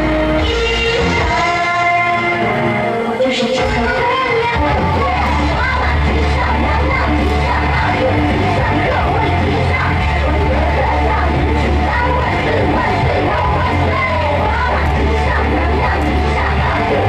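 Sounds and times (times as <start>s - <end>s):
loud music with heavy bass: 0.0s - 17.0s
person singing: 0.0s - 17.0s.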